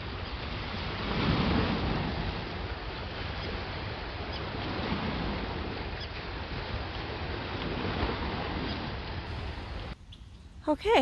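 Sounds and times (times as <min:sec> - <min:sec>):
wind rumbling on microphone: 0:00.1 - 0:10.6.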